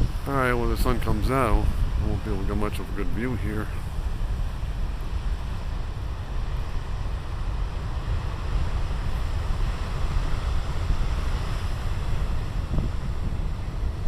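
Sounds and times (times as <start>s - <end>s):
ocean waves breaking: 0.0s - 14.0s
wind buffeting microphone: 0.0s - 14.0s.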